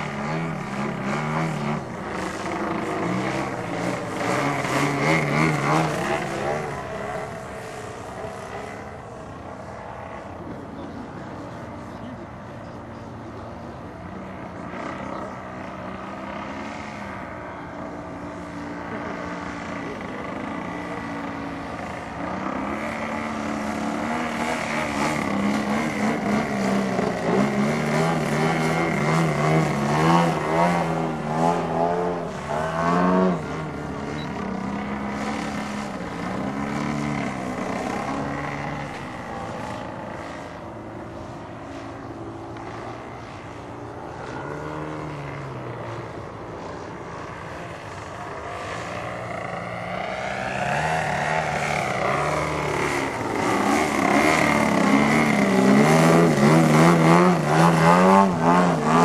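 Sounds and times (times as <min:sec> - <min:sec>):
model plane engine and propeller: 0:00.0 - 0:59.0.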